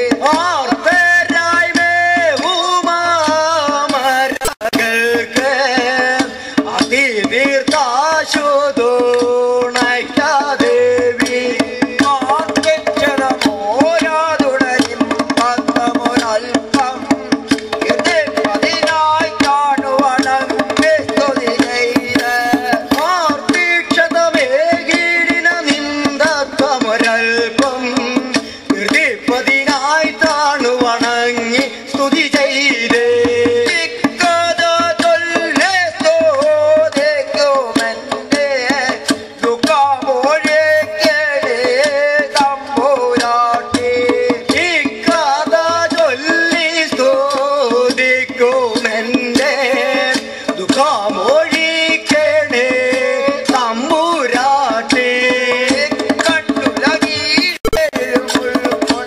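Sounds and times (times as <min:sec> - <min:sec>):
fast hand drum beating: 0:00.0 - 0:59.0
men singing devotional song: 0:00.0 - 0:59.0.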